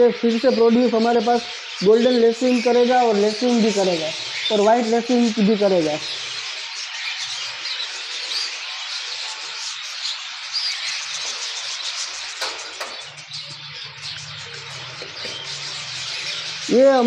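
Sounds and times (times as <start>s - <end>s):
budgerigars chattering and chirping: 0.0s - 17.0s.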